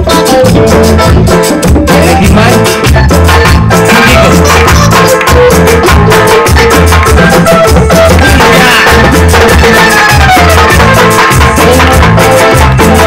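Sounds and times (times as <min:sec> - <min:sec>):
latin dance band playing: 0:00.0 - 0:13.0.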